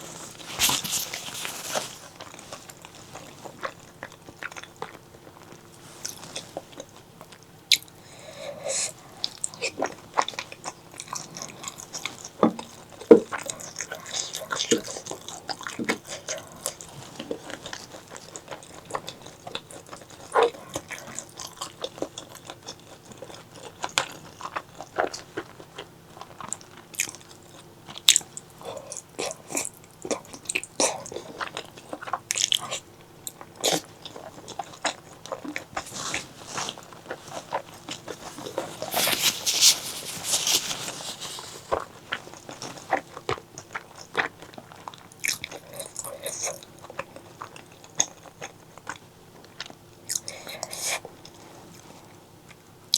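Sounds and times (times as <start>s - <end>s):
close chewing with wet clicks: 2.1s - 8.0s, 8.8s - 39.8s, 40.6s - 52.9s.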